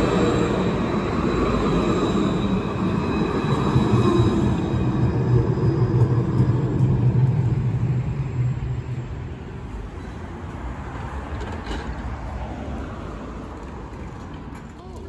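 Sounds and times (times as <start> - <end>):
standing tram hum: 0.0 - 15.0
tram rumbling past: 0.0 - 15.0.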